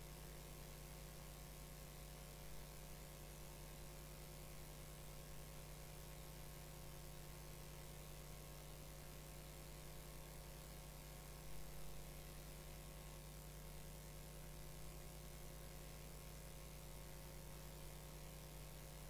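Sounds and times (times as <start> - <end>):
faint mains hum: 0.0 - 19.0.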